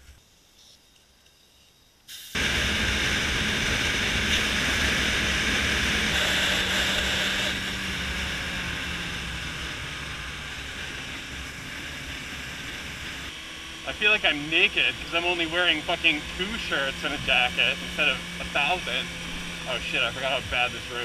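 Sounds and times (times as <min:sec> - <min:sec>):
motorcycle engine running: 0:02.4 - 0:21.0.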